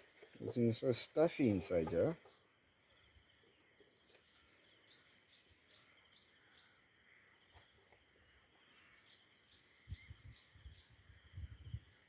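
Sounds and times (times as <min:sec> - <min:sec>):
insects chirping: 0:00.0 - 0:12.0
steady high-pitched hiss: 0:00.0 - 0:12.0.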